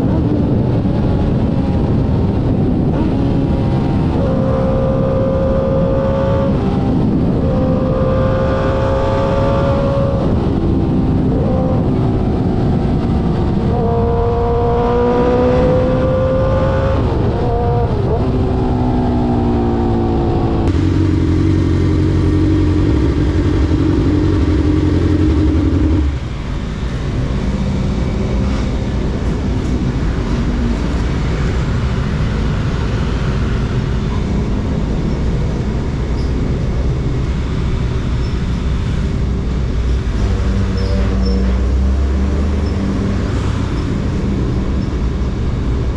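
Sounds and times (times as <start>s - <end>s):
motorcycle engine accelerating: 0.0s - 45.9s
road noise: 0.0s - 45.9s.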